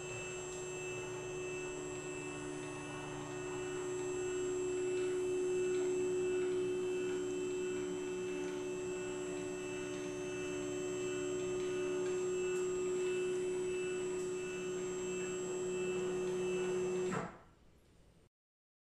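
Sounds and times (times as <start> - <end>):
faint high whine: 0.0 - 17.2
stepper motors humming: 0.0 - 17.2.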